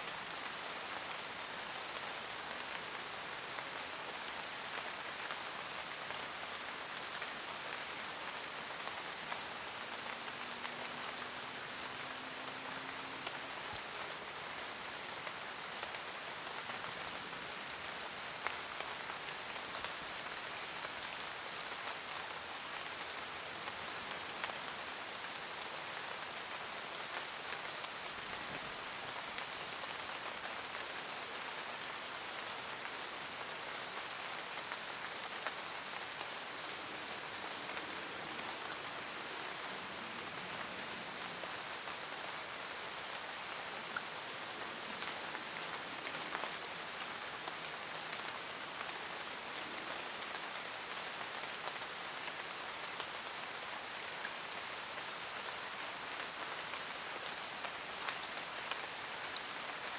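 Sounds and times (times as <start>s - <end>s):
rain on leaves and ground: 0.0s - 59.9s.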